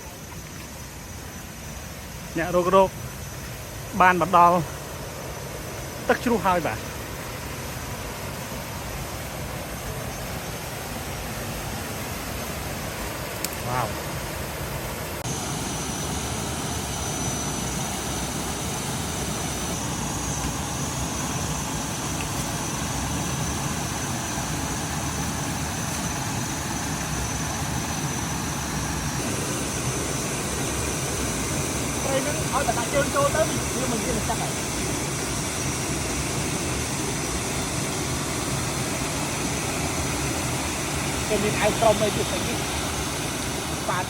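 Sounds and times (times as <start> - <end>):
faint high whine: 0.0 - 44.0.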